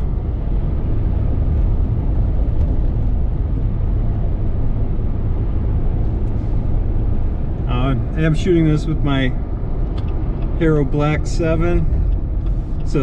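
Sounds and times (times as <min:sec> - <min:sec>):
car cabin road hum: 0:00.0 - 0:13.0.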